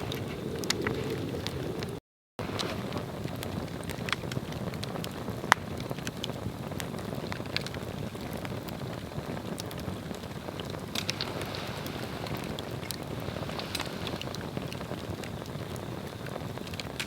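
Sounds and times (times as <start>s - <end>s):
fire crackling and popping: 0.0s - 17.0s
low rush of flame: 0.0s - 17.0s.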